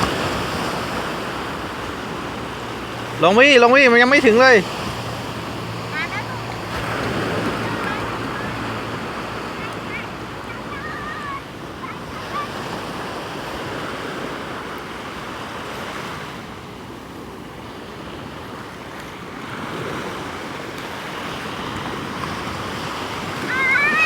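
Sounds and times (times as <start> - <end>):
sea waves washing on beach: 0.0 - 24.0.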